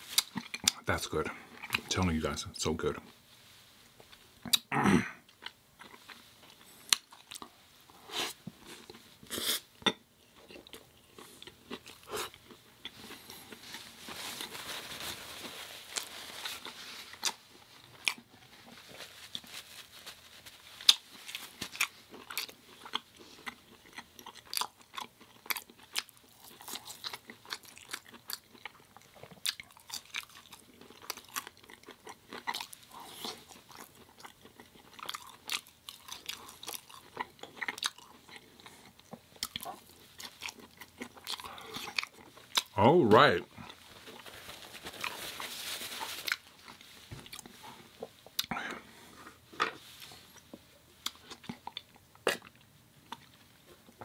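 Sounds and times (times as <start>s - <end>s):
crunchy eating and chewing: 0.0s - 2.4s, 10.3s - 54.0s.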